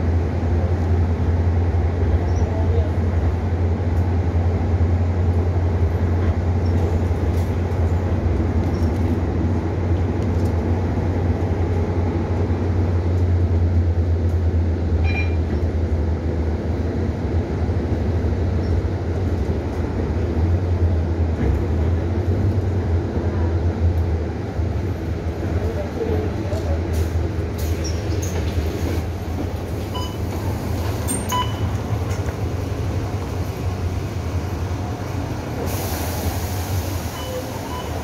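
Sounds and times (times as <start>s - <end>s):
bus engine hum and road noise: 0.0s - 38.0s.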